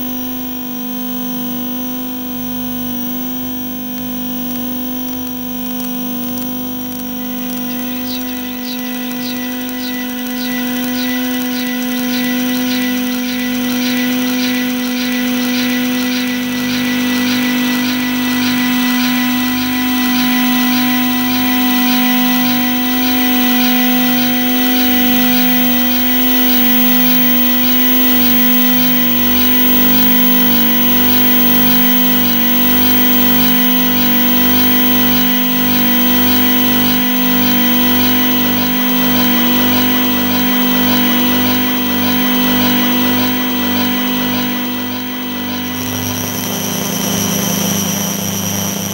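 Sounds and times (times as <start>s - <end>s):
low electronic drone: 5.3s - 48.9s
thin steady tones: 6.4s - 48.9s
fast pulsing hiss: 7.0s - 48.9s.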